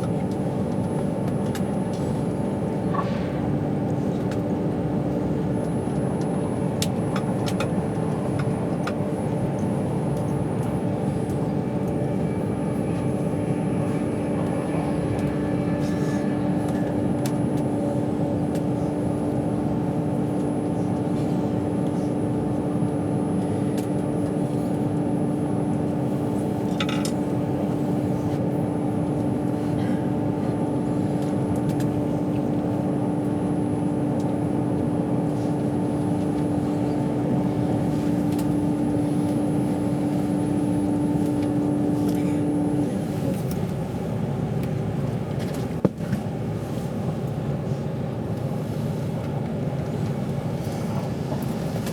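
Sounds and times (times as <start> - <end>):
constant hum: 0.0 - 51.9
train running rumble: 0.0 - 51.9.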